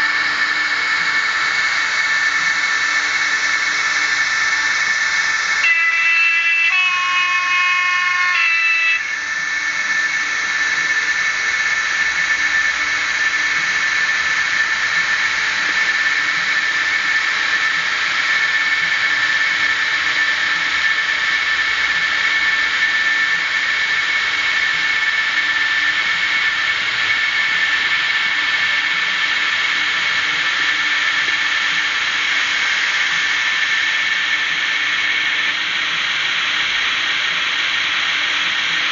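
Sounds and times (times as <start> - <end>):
electric locomotive whine: 0.0 - 38.9.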